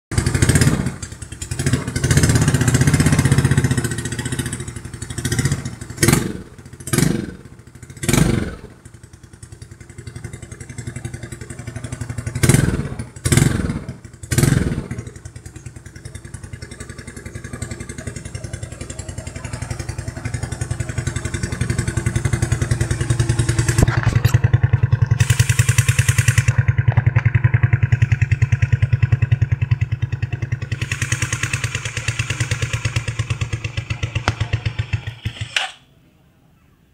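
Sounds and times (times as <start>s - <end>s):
scooter engine revving and idling: 0.1s - 35.8s.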